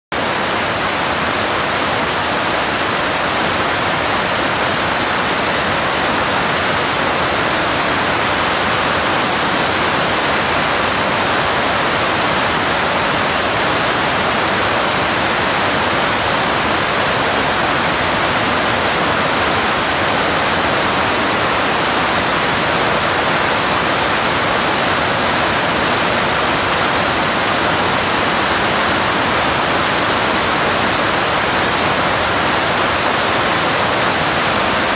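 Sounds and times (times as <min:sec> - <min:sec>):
water rushing over spillway: 0:00.1 - 0:34.9.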